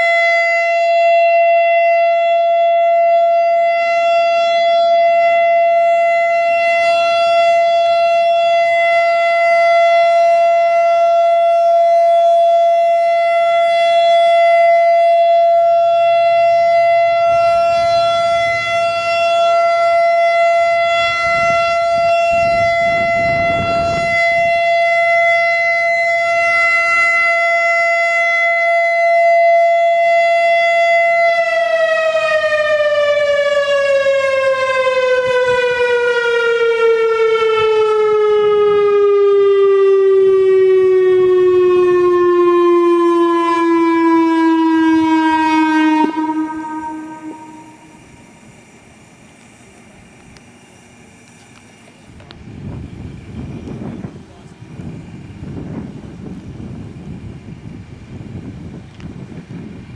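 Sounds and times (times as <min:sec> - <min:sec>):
emergency warning siren: 0:00.0 - 0:59.9.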